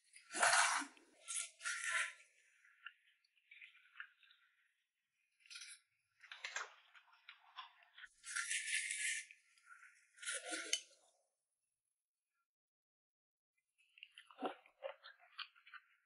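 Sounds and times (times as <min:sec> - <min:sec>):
close eating noises: 0:00.0 - 0:11.1, 0:13.8 - 0:16.0.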